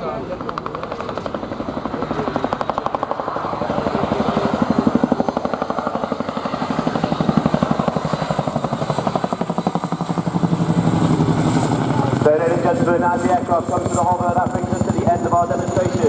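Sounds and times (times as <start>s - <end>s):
helicopter rotors thudding: 0.0s - 16.0s.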